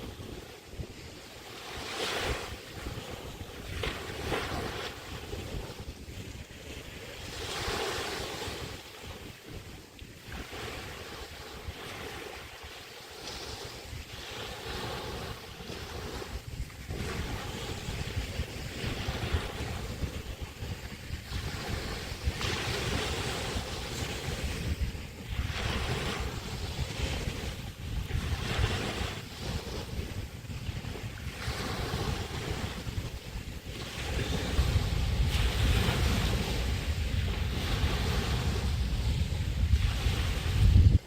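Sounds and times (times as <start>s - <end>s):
waves breaking on beach: 0.0s - 41.0s
wind rumbling on microphone: 0.0s - 41.0s.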